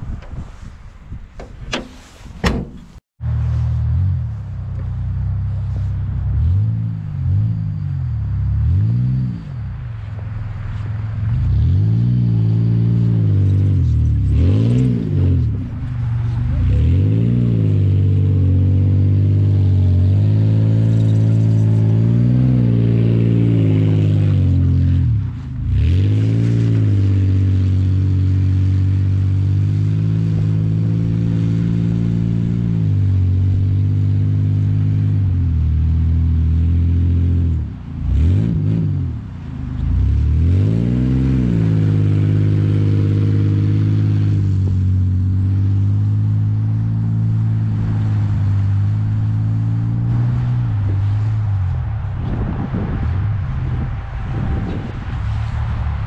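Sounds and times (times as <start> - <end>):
truck engine revving high: 2.5 - 9.9, 10.5 - 56.0.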